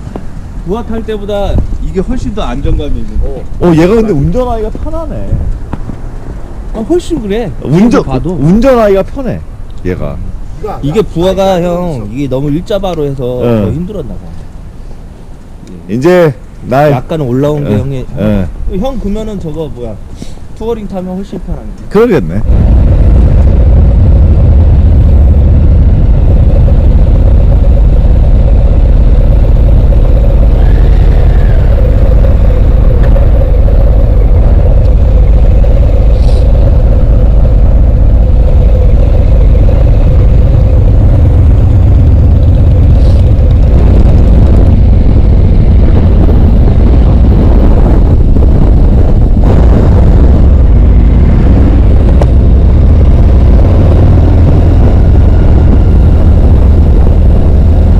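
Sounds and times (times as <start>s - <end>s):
motorcycle engine rumble: 0.0s - 16.6s, 21.6s - 57.9s
wind on microphone: 0.0s - 20.6s, 21.6s - 57.9s.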